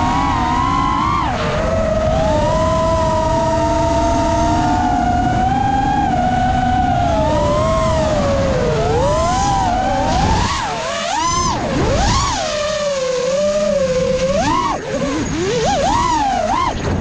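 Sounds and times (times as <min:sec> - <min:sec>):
drone motors whining: 0:00.0 - 0:17.0
rushing wind: 0:00.0 - 0:17.0.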